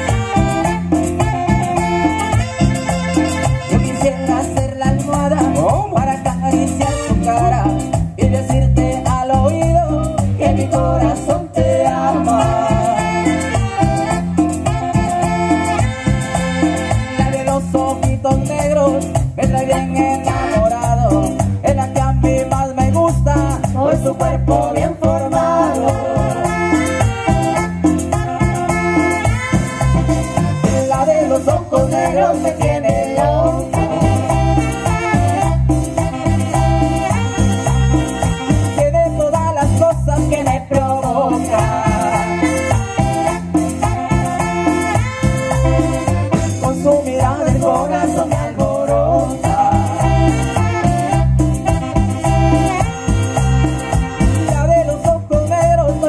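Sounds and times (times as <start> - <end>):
latin dance band playing: 0.0 - 56.0.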